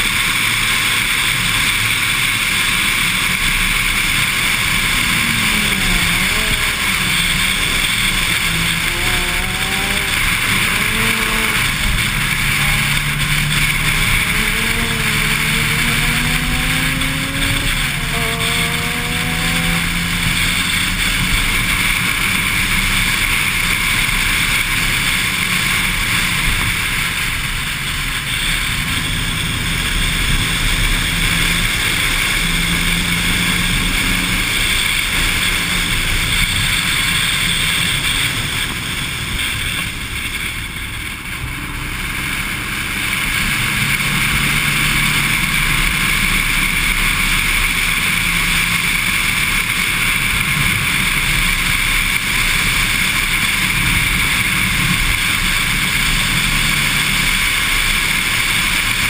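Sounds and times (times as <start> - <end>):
car engine running hard: 0.0 - 59.0
road noise: 0.0 - 59.0.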